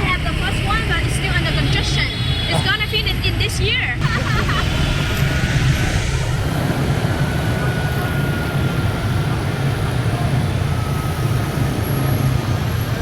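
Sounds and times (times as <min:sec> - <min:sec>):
traffic engines and road noise: 0:00.0 - 0:13.0.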